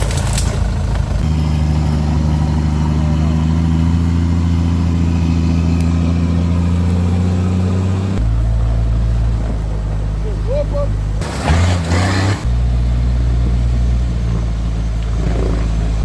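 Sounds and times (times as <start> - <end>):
vehicle engine running steadily: 0.0 - 16.0.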